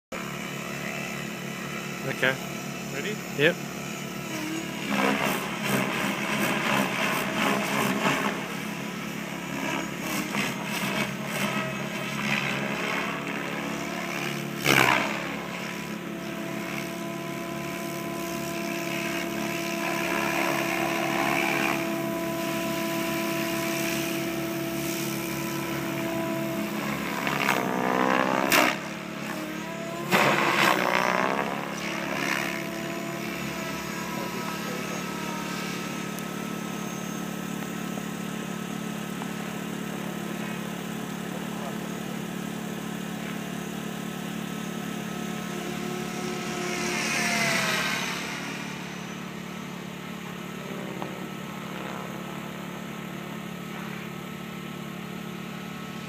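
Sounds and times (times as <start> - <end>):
rc helicopter rotor whine: 0.1 - 56.0.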